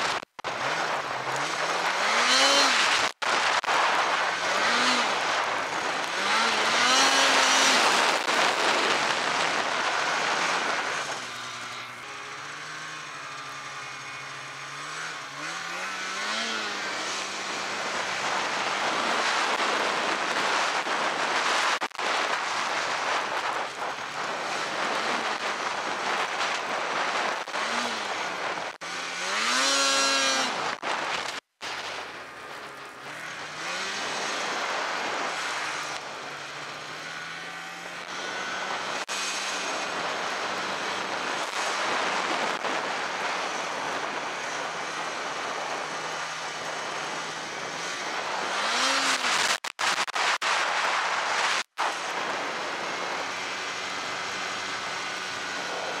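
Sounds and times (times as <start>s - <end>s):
rush of wind and snow: 0.0s - 56.0s
snowmobile engine revving: 0.0s - 56.0s.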